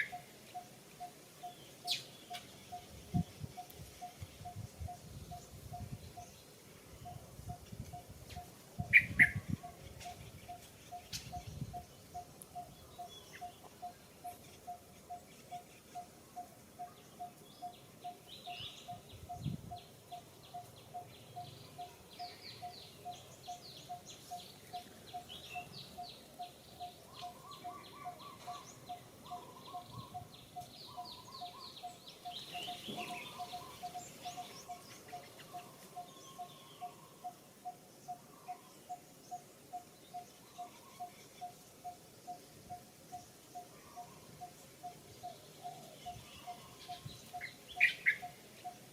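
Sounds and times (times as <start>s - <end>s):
birds chirping and twittering: 0.0s - 48.9s.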